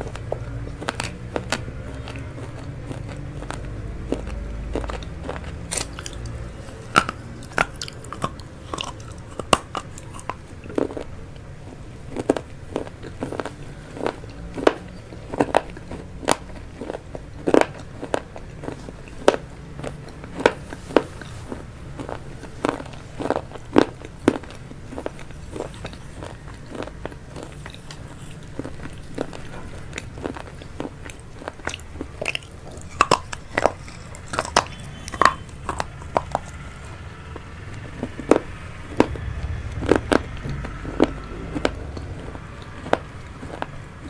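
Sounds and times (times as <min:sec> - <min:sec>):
chewing noodles close up: 0:00.0 - 0:44.0.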